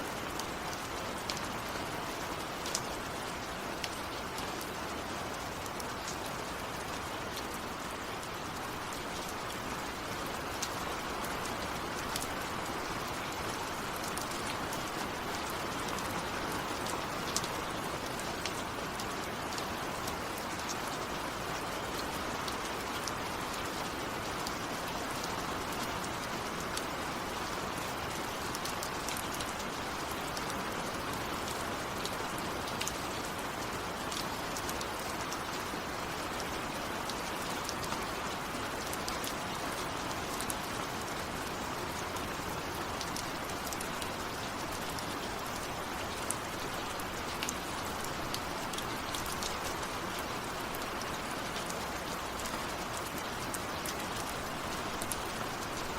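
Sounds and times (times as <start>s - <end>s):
steady rainfall hiss: 0.0s - 55.9s
raindrops ticking on surface: 0.1s - 55.9s.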